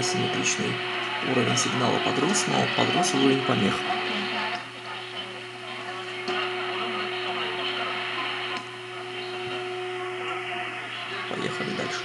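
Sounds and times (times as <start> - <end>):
radio hiss and crackling: 0.0 - 12.0
steady whine: 0.0 - 12.0.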